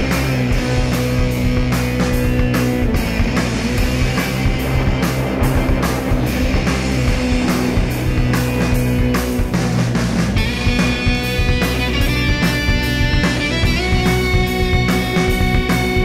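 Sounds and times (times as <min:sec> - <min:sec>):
drum kit beat: 0:00.0 - 0:16.0
electric guitar: 0:00.0 - 0:16.0
rock band playing: 0:00.0 - 0:16.0.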